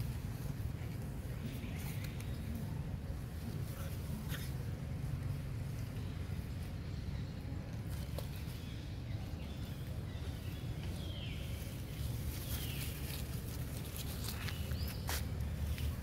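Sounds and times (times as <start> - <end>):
monkeys scuffling through grass: 0.0 - 6.9, 7.7 - 16.0.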